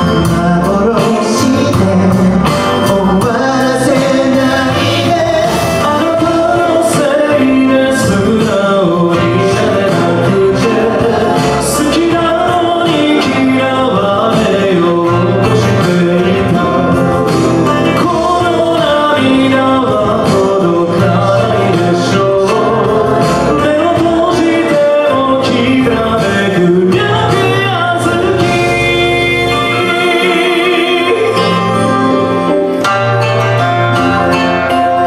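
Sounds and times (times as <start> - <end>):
men singing into microphones: 0.0 - 32.5
instrumental backing music: 0.0 - 35.0.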